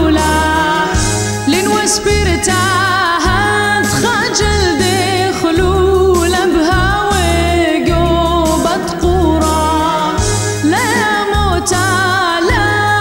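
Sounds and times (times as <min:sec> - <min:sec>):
instrumental backing with bass: 0:00.0 - 0:13.0
person singing with vibrato: 0:00.0 - 0:13.0.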